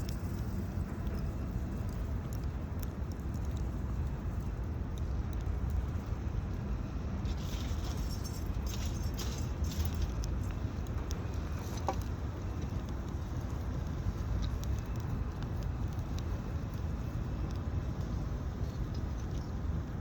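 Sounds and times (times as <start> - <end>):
campfire crackling: 0.0 - 20.0
wind rumble on microphone: 0.0 - 20.0.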